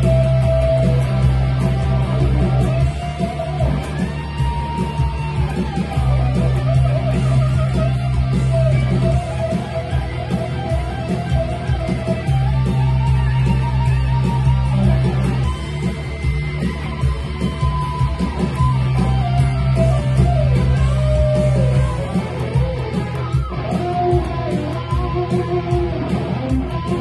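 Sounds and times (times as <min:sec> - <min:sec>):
electric guitar lead with bends: 0:00.0 - 0:27.0.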